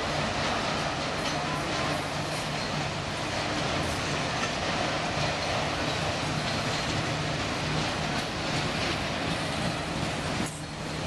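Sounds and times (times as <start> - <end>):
train wheels rumbling on track: 0.0 - 11.0
wheels clickety-clack: 0.0 - 11.0.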